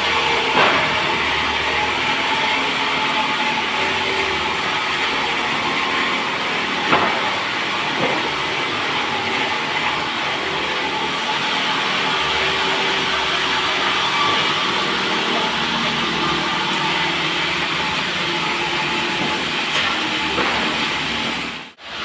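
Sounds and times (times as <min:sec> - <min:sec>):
sawmill saw cutting a log: 0:00.0 - 0:22.0.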